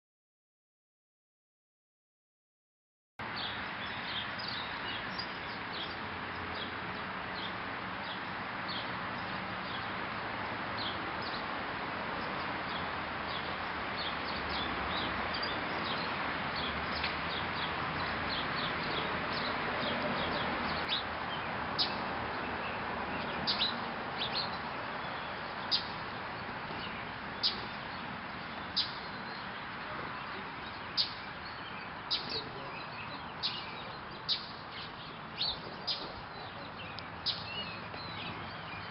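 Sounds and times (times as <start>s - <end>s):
small birds chirping: 3.2s - 38.9s.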